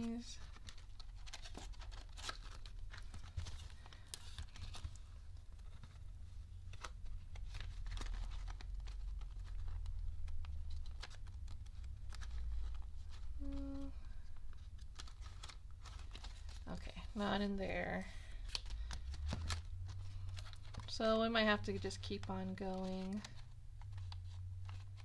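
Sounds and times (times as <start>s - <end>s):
plastic and paper rustling: 0.0s - 25.0s.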